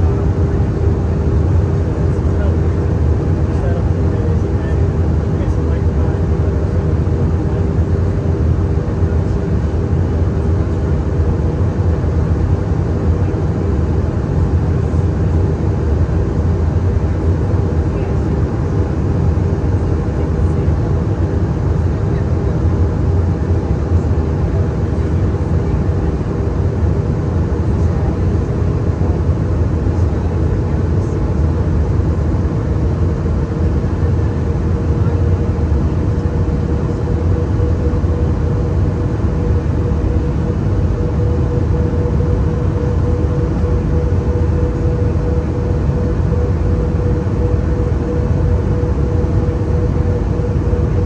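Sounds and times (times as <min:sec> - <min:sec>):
aircraft cabin engine rumble: 0:00.0 - 0:51.0.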